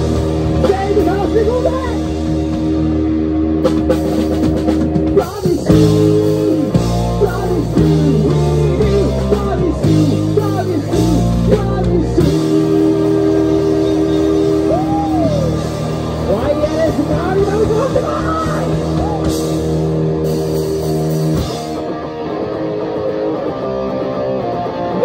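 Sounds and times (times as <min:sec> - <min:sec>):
rock band playing loudly: 0:00.0 - 0:25.0.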